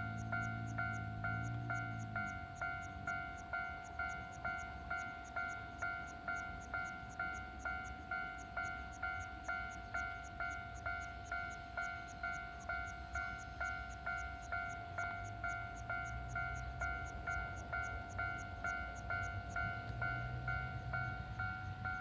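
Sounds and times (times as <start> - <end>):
level crossing warning bell ringing: 0.0 - 22.0.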